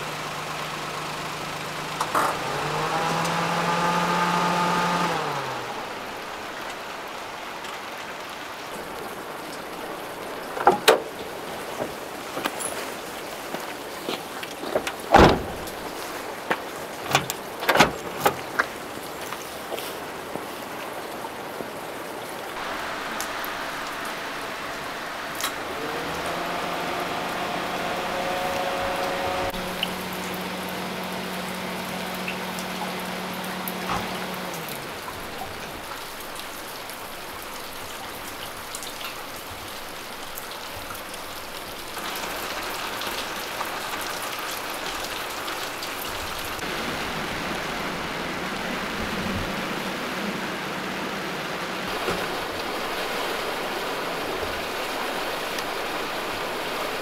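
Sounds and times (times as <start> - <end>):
heavy rain on wet pavement: 0.0 - 57.0.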